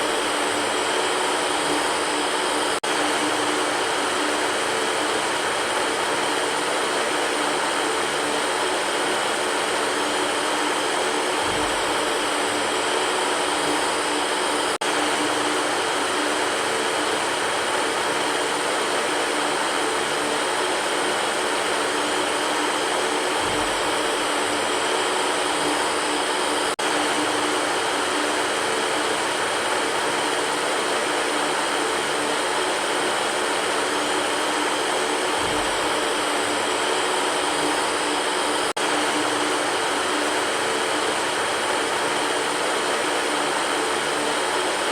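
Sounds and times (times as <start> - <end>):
electric fan running: 0.0 - 44.9.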